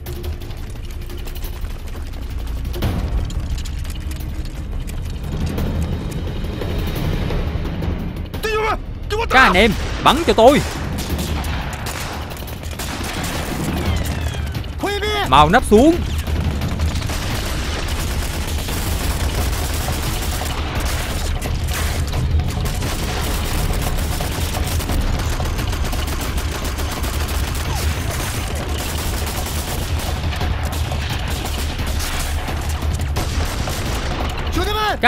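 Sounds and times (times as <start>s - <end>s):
continuous heavy gunfire: 0.0s - 35.0s.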